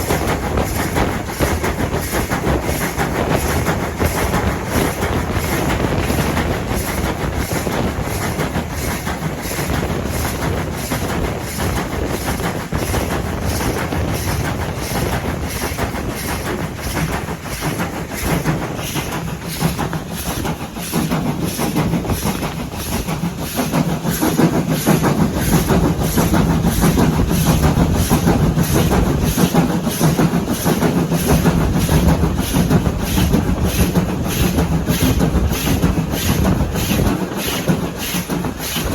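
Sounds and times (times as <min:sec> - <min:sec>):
train running noise: 0:00.0 - 0:38.9
train wheels clicking over rail joints: 0:00.0 - 0:38.9.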